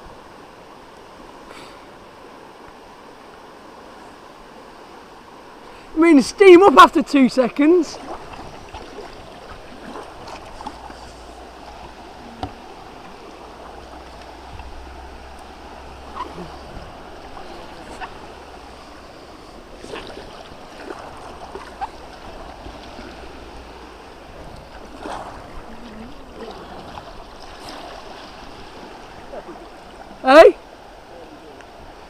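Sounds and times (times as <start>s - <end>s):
river water lapping around kayak: 0.0s - 32.0s.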